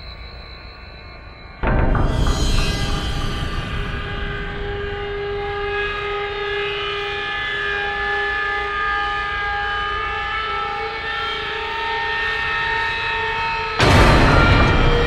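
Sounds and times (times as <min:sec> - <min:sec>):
dark droning music: 0:00.0 - 0:15.0.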